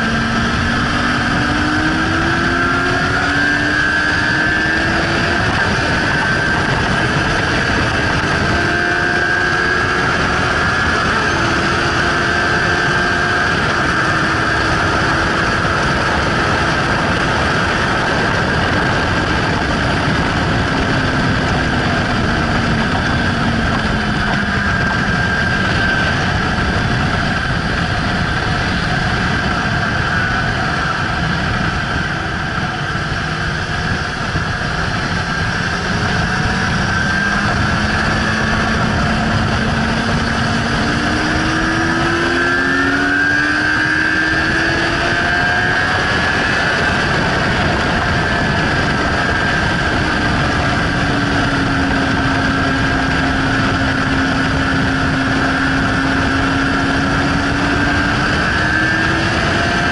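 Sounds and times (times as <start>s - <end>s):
motorcycle engine running hard: 0.0s - 59.9s
wind noise: 0.0s - 59.9s.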